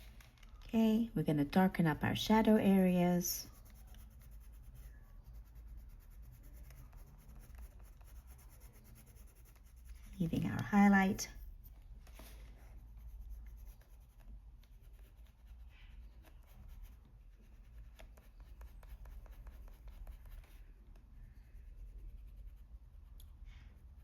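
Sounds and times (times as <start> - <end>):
pencil scratching on paper: 2.1 - 11.3, 12.1 - 24.0.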